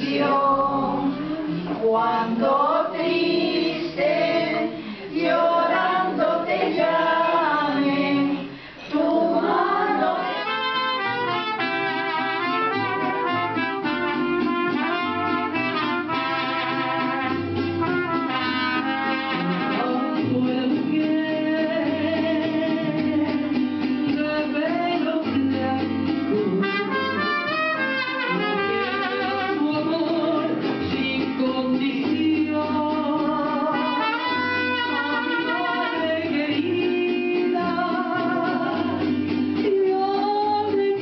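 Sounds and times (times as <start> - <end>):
group singing without accompaniment: 0.0 - 41.0
mariachi band playing: 0.0 - 41.0.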